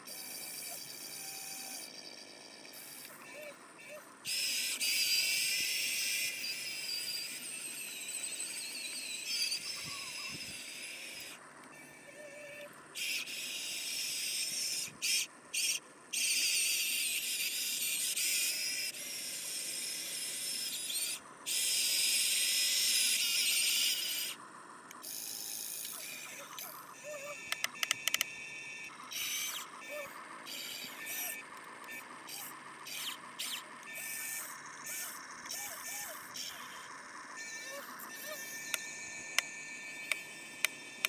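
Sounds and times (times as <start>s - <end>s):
toy electric motors whining: 0.0s - 41.0s.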